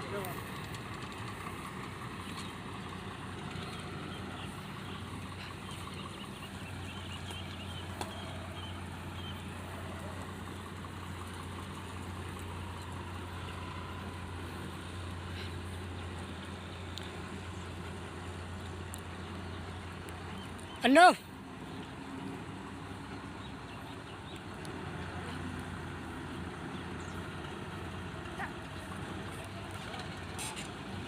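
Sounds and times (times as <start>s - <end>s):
diesel engine low drone: 0.0s - 31.0s.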